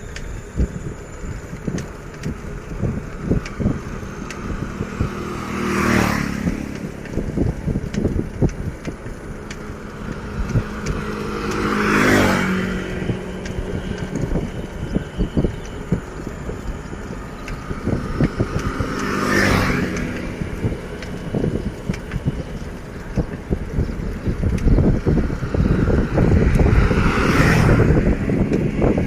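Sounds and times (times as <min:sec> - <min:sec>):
low rumble with small knocks: 0:00.0 - 0:29.0
vehicles passing by: 0:00.0 - 0:29.0.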